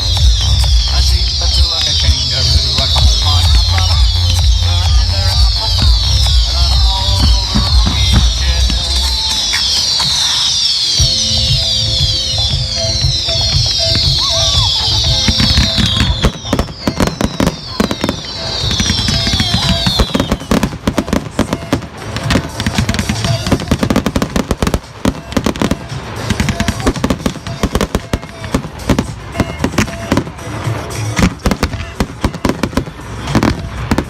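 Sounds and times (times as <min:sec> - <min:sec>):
falling firework whistles: 0:00.0 - 0:34.0
fireworks bangs and crackles: 0:00.0 - 0:34.0
music: 0:00.0 - 0:34.0.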